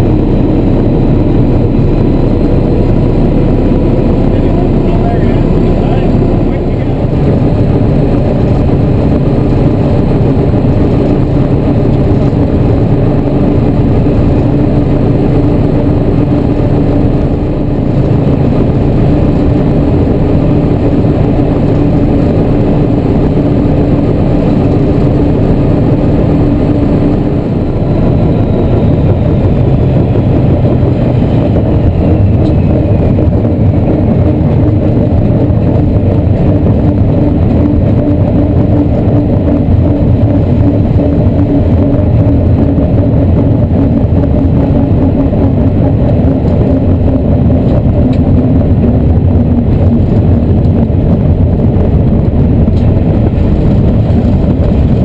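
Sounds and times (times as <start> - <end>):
diesel locomotive engine running: 0.0 - 55.0
rumble of moving train: 0.0 - 55.0.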